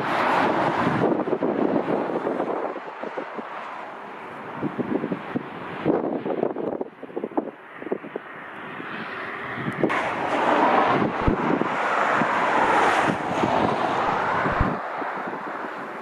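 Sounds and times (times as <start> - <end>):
jet airliner engines rushing: 0.0 - 16.0
wind buffeting microphone: 0.0 - 16.0.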